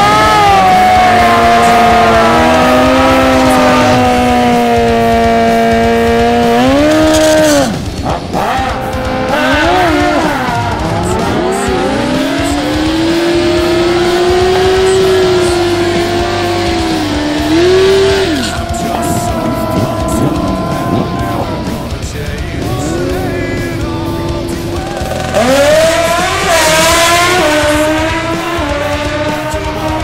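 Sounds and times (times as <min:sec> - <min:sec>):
motorcycle engine revving hard: 0:00.0 - 0:30.0.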